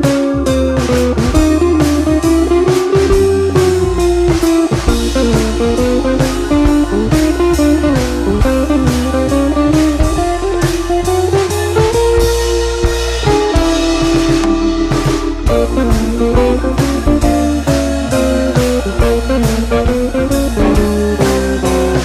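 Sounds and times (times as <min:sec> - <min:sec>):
guitar playing bending melody: 0:00.0 - 0:22.0
steady drum beat: 0:00.0 - 0:22.0.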